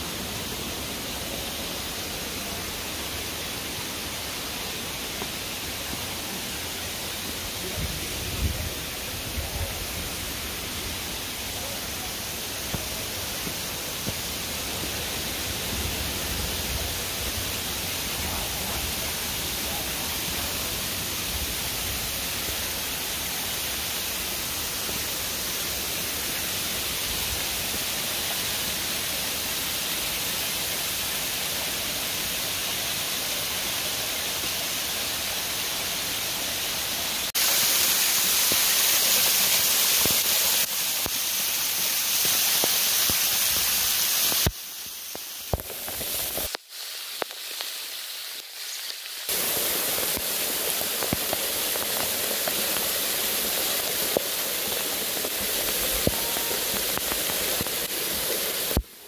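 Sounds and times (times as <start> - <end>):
waterfall rushing water: 0.0 - 59.0.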